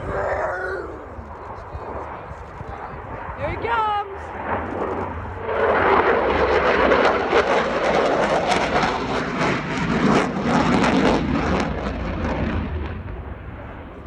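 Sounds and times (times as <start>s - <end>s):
jet roar with crackle: 1.2s - 14.0s.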